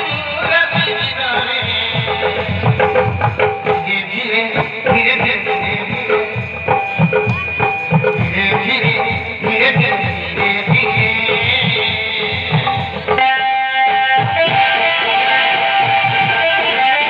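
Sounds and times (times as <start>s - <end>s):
hand drums beating fast: 0.0s - 13.3s, 15.5s - 17.0s
folk dance melody: 0.0s - 17.0s.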